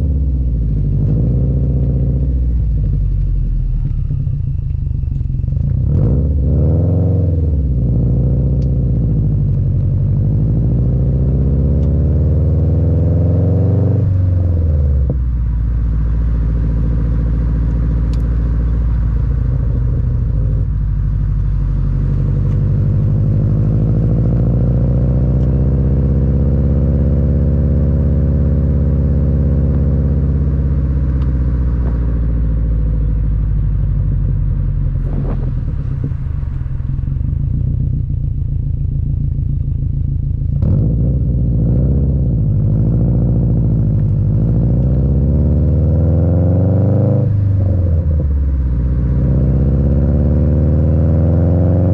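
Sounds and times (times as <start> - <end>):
car engine rumbling through exhaust: 0.0 - 51.9.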